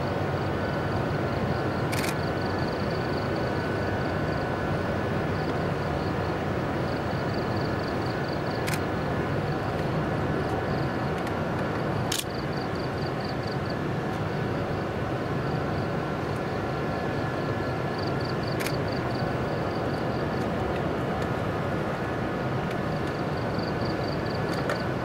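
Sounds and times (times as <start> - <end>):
low mechanical drone: 0.0 - 25.0.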